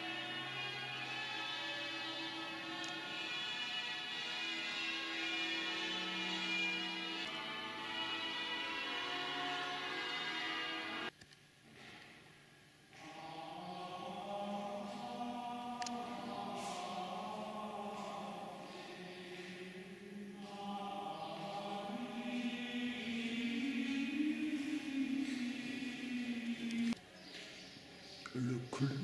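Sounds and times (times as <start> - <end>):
slow choral chant: 0.0 - 11.1, 12.9 - 29.0.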